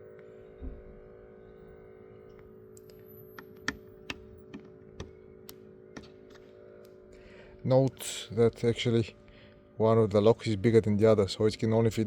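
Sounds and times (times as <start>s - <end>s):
faint steady background tone: 0.0s - 12.0s.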